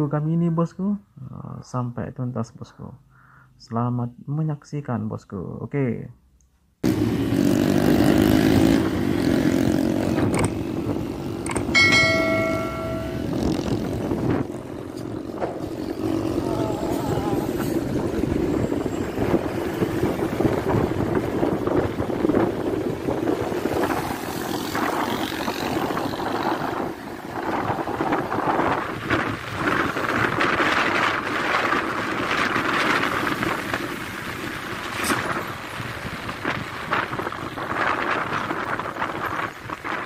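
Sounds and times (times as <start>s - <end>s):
motorcycle running: 6.8s - 40.0s
road noise: 6.8s - 40.0s
wind rushing over microphone: 6.9s - 40.0s.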